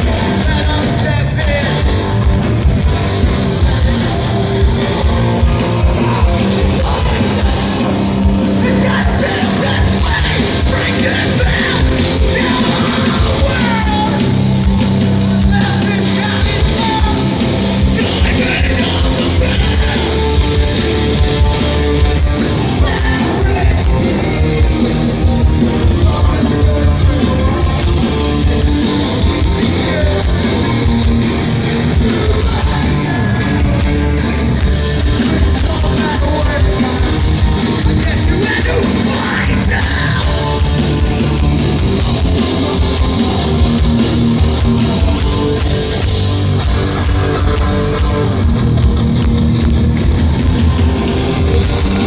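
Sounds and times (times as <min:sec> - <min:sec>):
person singing: 0:00.0 - 0:45.8
electric guitars: 0:00.0 - 0:52.0
pounding drums: 0:00.0 - 0:52.0.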